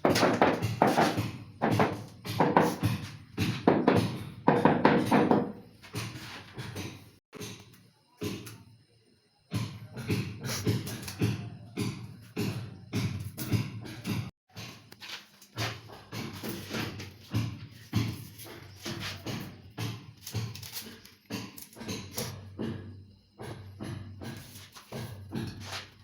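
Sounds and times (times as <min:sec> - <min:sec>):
background music with knocking beat: 0:00.0 - 0:08.5, 0:09.5 - 0:14.9, 0:15.5 - 0:20.2, 0:21.3 - 0:25.8.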